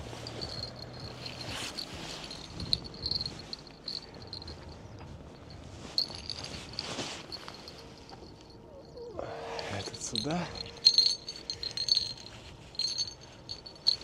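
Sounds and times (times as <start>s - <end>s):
small bells jingling: 0.0s - 14.0s.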